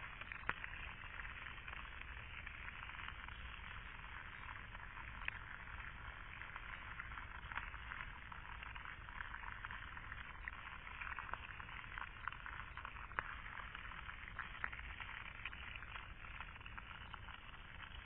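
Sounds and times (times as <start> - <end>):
faint fizzing crackle: 0.0 - 18.0.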